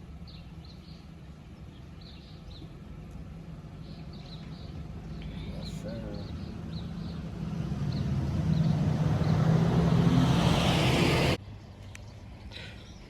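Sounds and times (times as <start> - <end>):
vehicle engine and tyres approaching: 0.0 - 13.0.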